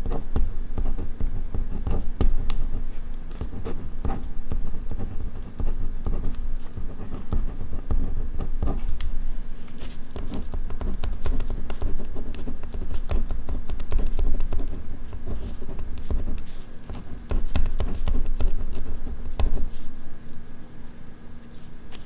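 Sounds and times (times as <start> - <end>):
pen scratching on paper: 0.0 - 8.9, 9.8 - 19.9.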